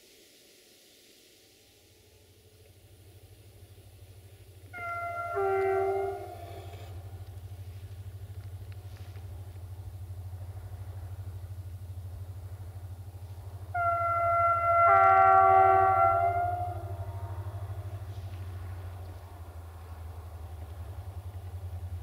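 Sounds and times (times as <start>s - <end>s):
steady low rumble: 0.2s - 15.0s, 15.7s - 22.0s
distant train horn chord: 3.4s - 22.0s.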